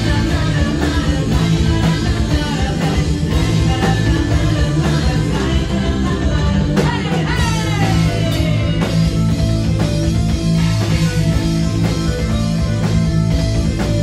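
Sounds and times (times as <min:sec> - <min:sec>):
bass guitar: 0:00.0 - 0:14.0
drum kit: 0:00.0 - 0:14.0
electric guitar: 0:00.0 - 0:14.0.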